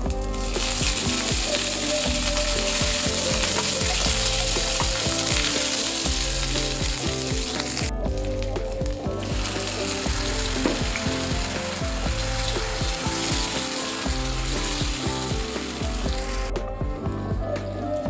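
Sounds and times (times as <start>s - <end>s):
leaves sizzling in hot oil: 0.0s - 16.5s.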